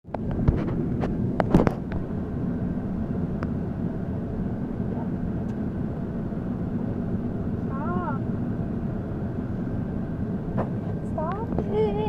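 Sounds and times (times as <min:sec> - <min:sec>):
moving vehicle rumble: 0:00.0 - 0:12.0.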